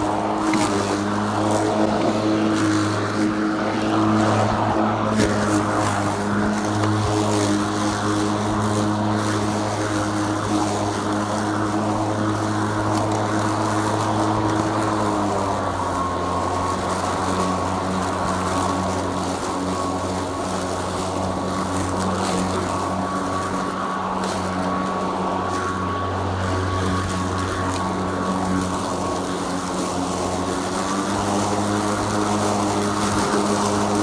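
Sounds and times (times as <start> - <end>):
lawn mower humming: 0.0 - 34.0.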